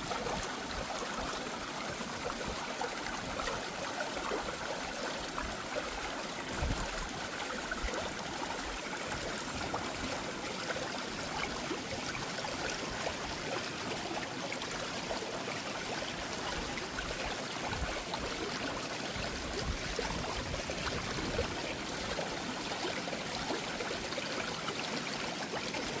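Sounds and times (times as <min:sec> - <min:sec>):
stream water trickling: 0:00.0 - 0:26.0.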